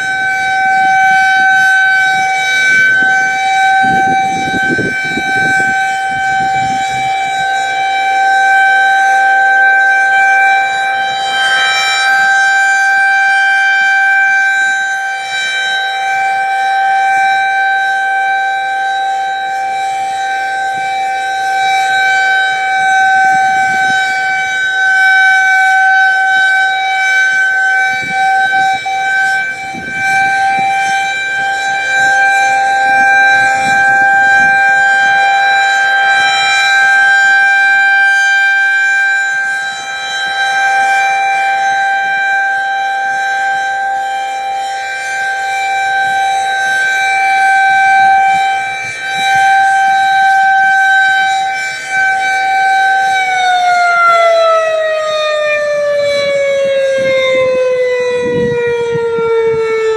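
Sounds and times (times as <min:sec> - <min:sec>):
rotating siren steady tone: 0:00.0 - 0:59.9.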